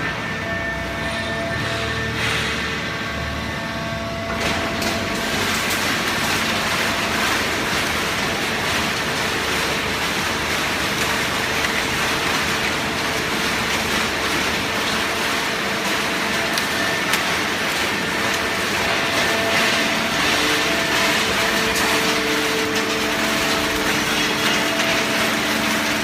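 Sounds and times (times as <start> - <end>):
paper baler machine running: 0.0 - 26.0.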